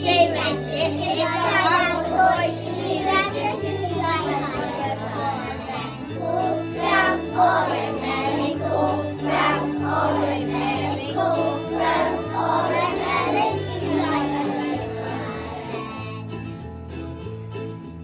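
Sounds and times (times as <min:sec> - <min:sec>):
group of voices singing: 0:00.0 - 0:16.2
held bass notes: 0:00.0 - 0:17.7.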